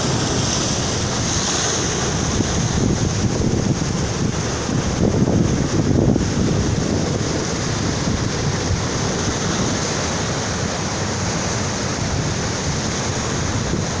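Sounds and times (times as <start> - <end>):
ocean surf on beach: 0.0 - 14.0
wind buffeting microphone: 0.0 - 14.0.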